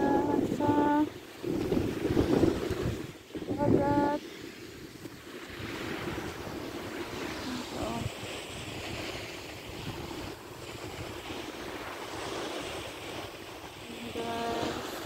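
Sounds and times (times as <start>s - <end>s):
surf washing on beach: 0.0s - 15.0s
wind rumbling on microphone: 0.0s - 15.0s.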